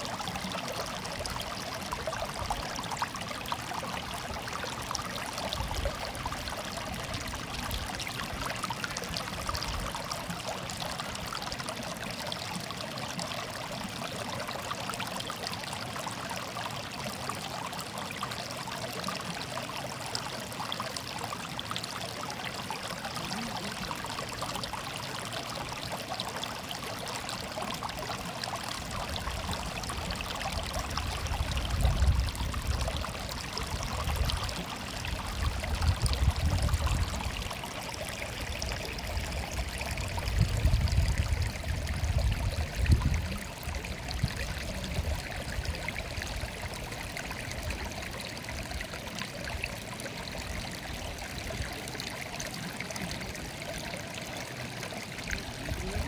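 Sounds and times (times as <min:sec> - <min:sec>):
stream water murmuring: 0:00.0 - 0:56.0.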